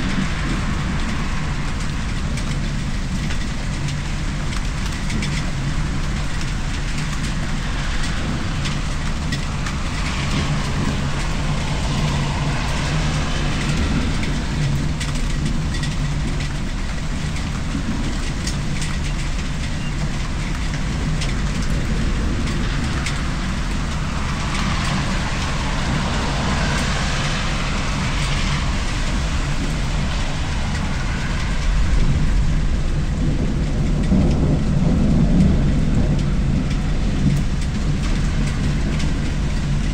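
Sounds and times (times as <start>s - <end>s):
low thunder rumble: 0.0s - 39.9s
rain falling: 0.0s - 39.9s
vehicle passing on wet road: 0.0s - 39.9s.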